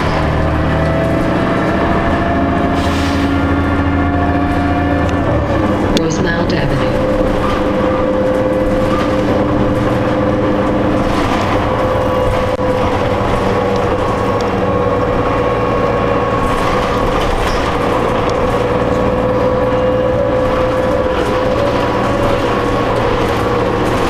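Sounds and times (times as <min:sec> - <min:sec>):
bus engine and road noise: 0:00.0 - 0:24.0
constant whining tone: 0:03.5 - 0:24.0.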